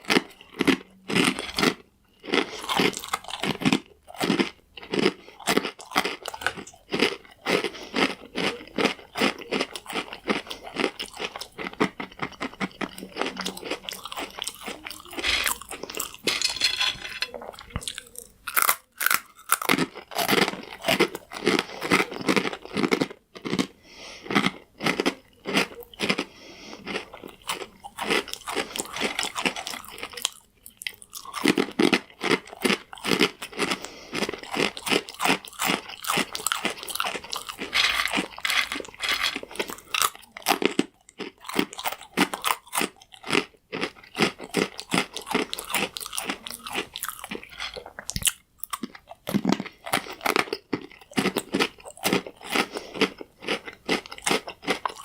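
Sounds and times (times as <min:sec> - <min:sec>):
crunching croutons: 0:00.0 - 0:55.0.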